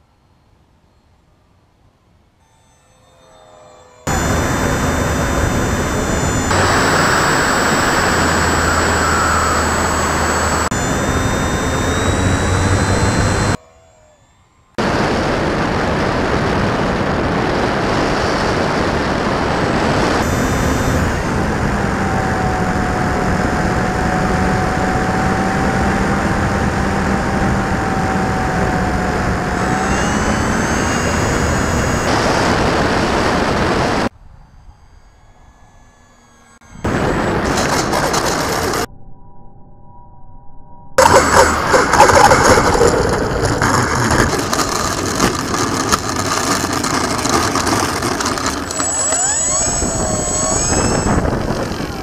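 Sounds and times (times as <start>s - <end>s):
thin high whine: 0.8s - 52.0s
electric motor and propeller: 2.4s - 38.9s, 41.0s - 52.0s.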